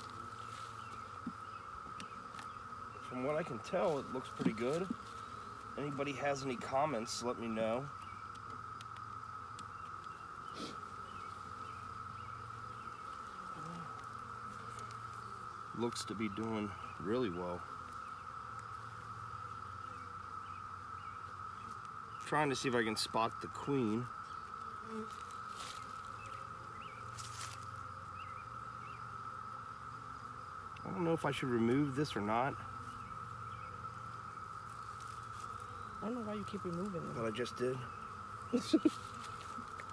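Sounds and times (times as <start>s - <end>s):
high insect drone: 0.0s - 39.9s
honeybees buzzing: 0.0s - 39.9s.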